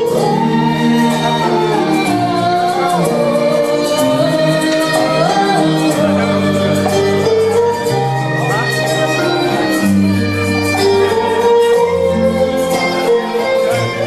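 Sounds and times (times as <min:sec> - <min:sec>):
woman singing: 0:00.0 - 0:13.4
instrumental accompaniment: 0:00.0 - 0:14.0.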